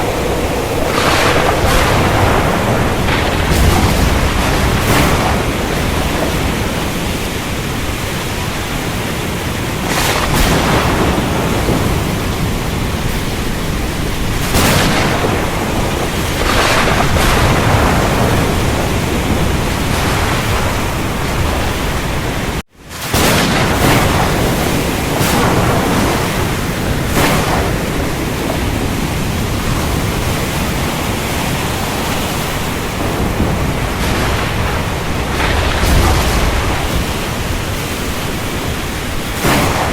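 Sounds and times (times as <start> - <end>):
strong wind buffeting microphone: 0.0 - 22.6, 23.2 - 39.9.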